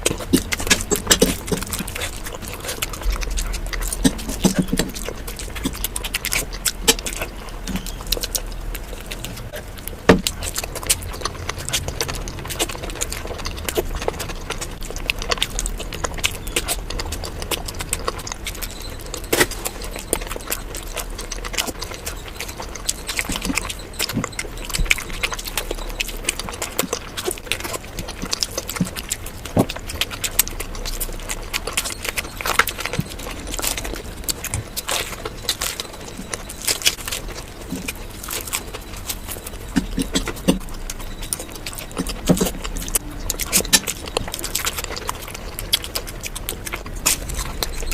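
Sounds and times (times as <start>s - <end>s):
chewing and crunching food: 0.0s - 47.9s
low steady hum: 0.0s - 47.9s.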